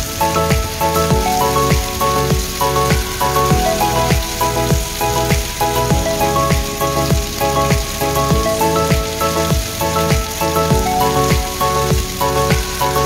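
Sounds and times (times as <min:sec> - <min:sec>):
background music with beat: 0:00.0 - 0:13.0
food frying in a pan: 0:00.0 - 0:13.0.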